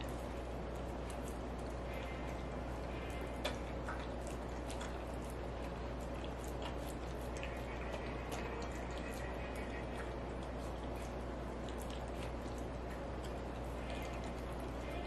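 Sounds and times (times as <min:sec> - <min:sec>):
dog chewing food clicks: 0:00.0 - 0:15.0.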